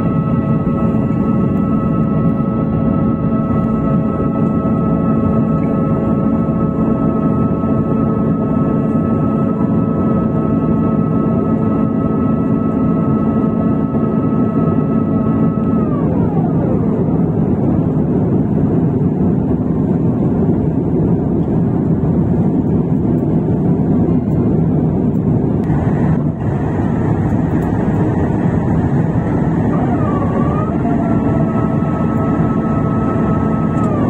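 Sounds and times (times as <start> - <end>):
high whine dropping in pitch: 0.0 - 19.7, 25.0 - 34.0
airplane cabin engine roar: 0.0 - 34.0.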